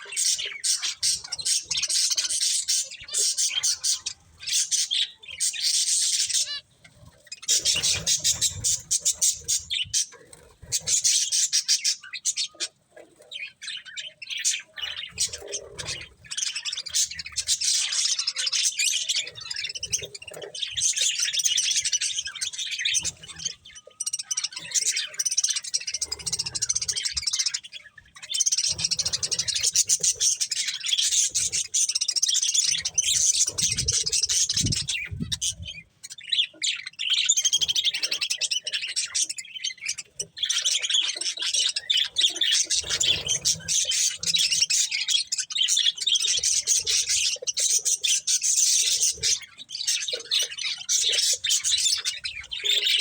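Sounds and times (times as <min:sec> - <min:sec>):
budgerigars chirping and warbling: 0:00.0 - 0:53.0.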